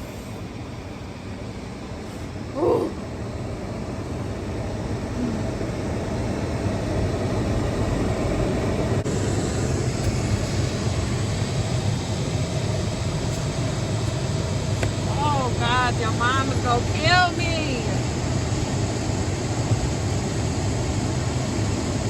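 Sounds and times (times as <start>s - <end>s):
car idling: 0.0s - 22.0s.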